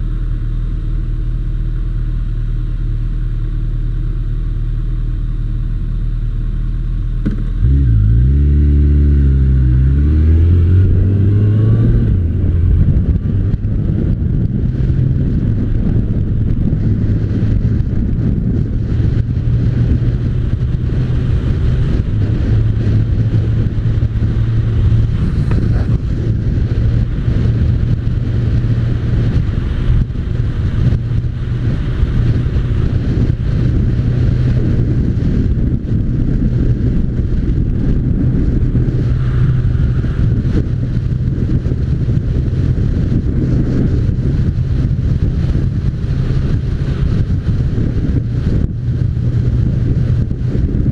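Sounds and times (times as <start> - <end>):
motorcycle engine: 0.0 - 50.9.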